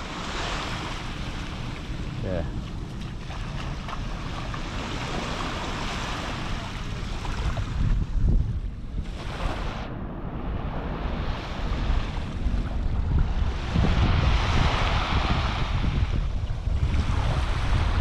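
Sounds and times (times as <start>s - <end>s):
small waves washing on sand: 0.0s - 8.2s, 9.0s - 18.0s
wind buffeting microphone: 0.0s - 18.0s.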